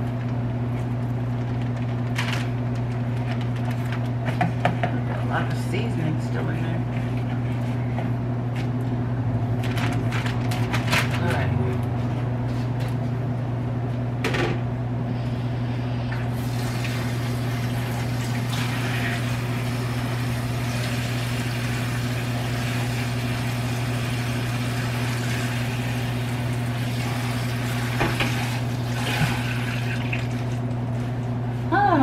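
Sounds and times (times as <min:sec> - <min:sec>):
stove fan humming: 0:00.0 - 0:32.0.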